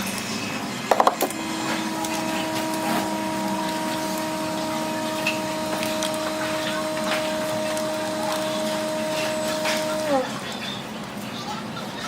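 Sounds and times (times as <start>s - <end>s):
small electric motor whining: 0.7s - 10.7s.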